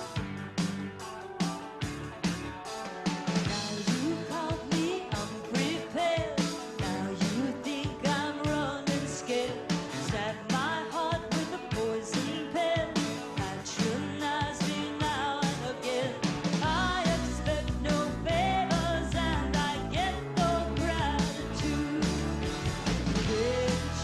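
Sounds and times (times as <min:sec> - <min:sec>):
bass line: 0:00.0 - 0:24.0
country-rock band playing: 0:00.0 - 0:24.0
woman singing: 0:03.5 - 0:22.5, 0:23.2 - 0:24.0.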